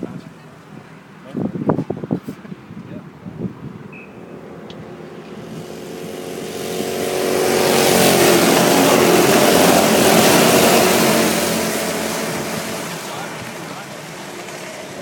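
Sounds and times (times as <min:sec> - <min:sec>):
go-kart engines racing: 0:02.0 - 0:15.0.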